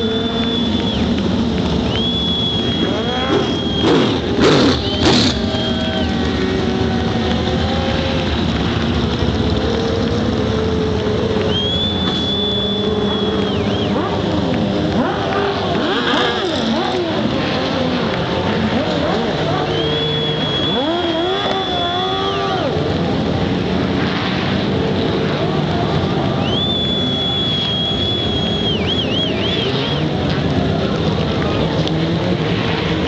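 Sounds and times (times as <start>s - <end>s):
race car engines: 0.0s - 33.0s
race cars passing close: 0.0s - 33.0s.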